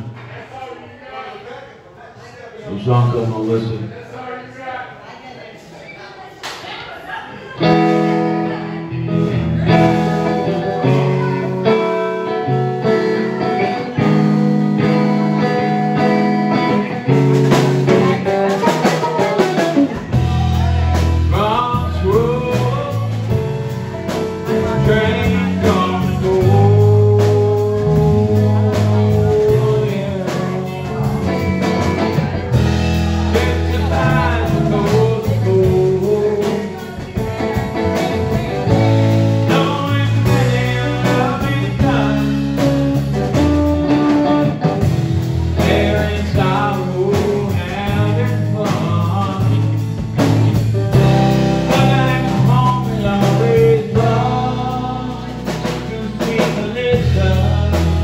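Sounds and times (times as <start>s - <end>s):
live blues band playing: 7.5s - 58.0s
man singing: 7.6s - 58.0s.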